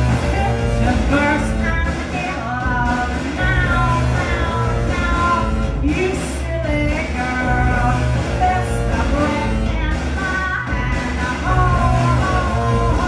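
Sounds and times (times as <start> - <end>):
pulsing electronic rock backing: 0.0 - 13.0
woman singing: 0.0 - 13.0.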